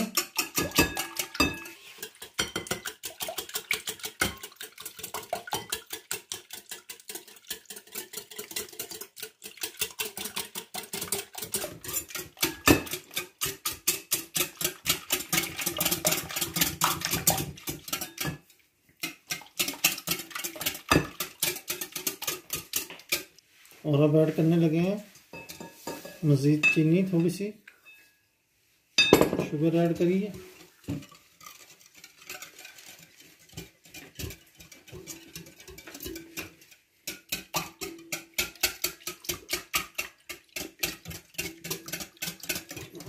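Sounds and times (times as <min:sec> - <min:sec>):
whisk clinking against glass bowl: 0:00.0 - 0:23.3, 0:31.0 - 0:43.0.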